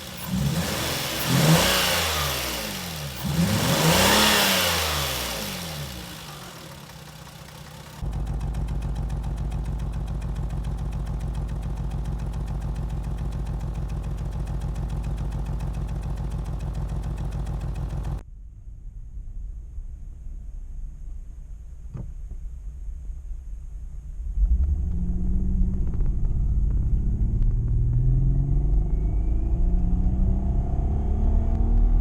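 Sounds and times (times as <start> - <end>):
car engine revving and idling: 0.0 - 18.2, 24.3 - 32.0.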